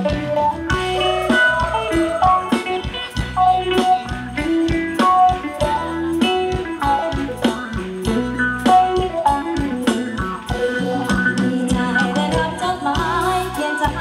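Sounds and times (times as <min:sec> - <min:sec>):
plucked string melody: 0:00.0 - 0:12.8
steady drum beat: 0:00.0 - 0:13.4.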